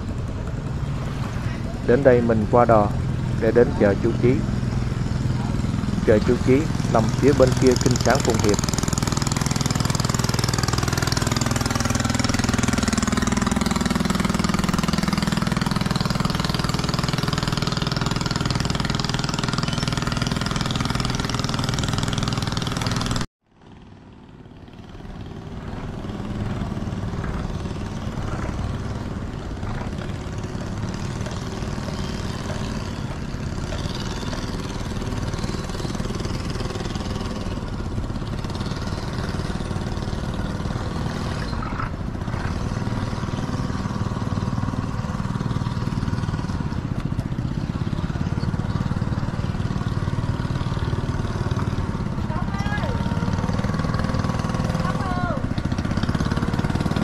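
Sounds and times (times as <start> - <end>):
quieter engine running: 0.0 - 57.0
small boat engine running: 0.0 - 57.0.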